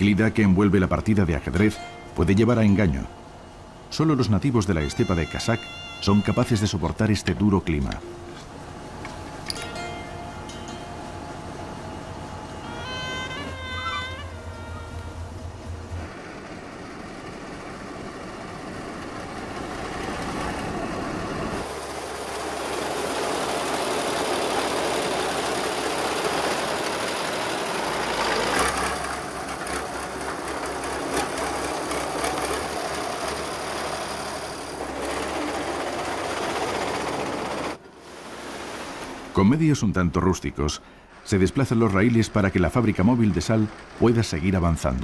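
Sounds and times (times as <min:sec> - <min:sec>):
tractor engine running: 0:00.0 - 0:38.0, 0:39.1 - 0:45.0.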